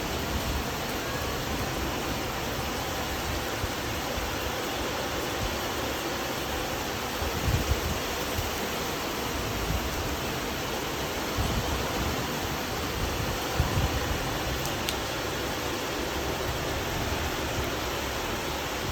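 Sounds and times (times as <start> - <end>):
heavy rain pouring: 0.0 - 18.9.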